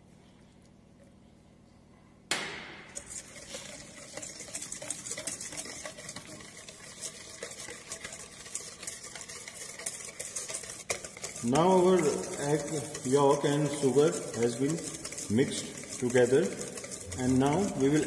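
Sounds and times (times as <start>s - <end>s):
whisk clicking against metal bowl: 2.9s - 18.0s.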